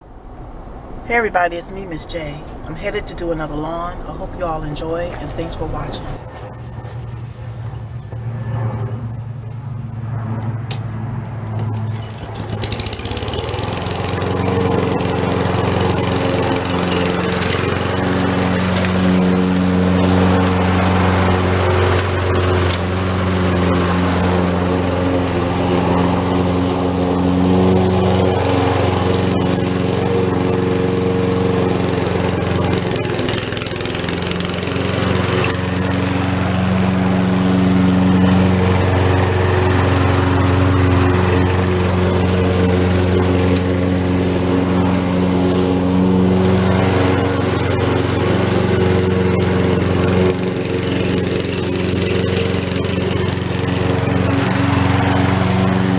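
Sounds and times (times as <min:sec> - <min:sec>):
lawn mower engine running: 0:00.7 - 0:55.9.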